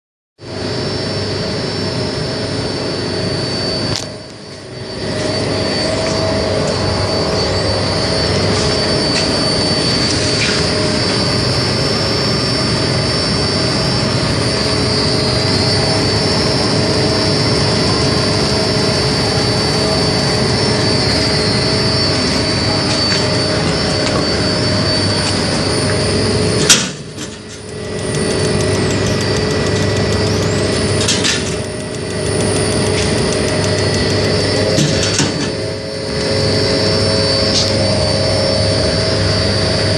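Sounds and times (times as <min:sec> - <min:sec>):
high-pitched whine: 0:00.4 - 0:39.9
tumble dryer fan and motor drone: 0:00.4 - 0:39.9.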